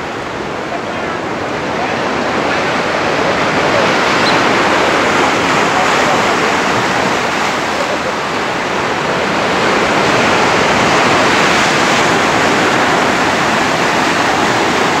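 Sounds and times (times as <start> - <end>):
waves breaking on rocky shore: 0.0 - 15.0.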